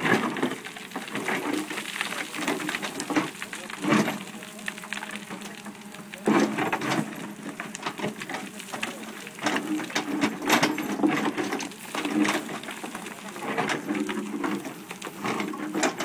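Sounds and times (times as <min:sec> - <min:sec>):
bucket scraping stony soil: 0:00.0 - 0:16.0
stones and earth falling: 0:00.0 - 0:16.0.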